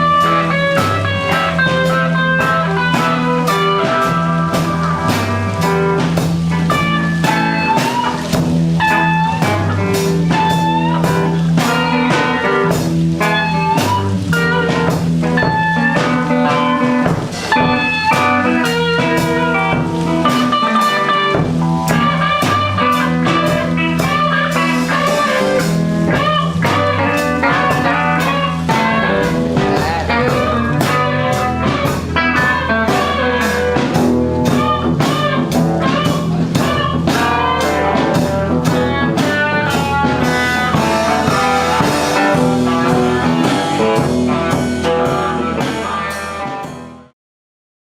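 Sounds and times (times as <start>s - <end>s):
bass notes: 0.0s - 47.1s
drum kit beat: 0.0s - 47.1s
electric guitar lines: 0.0s - 47.1s.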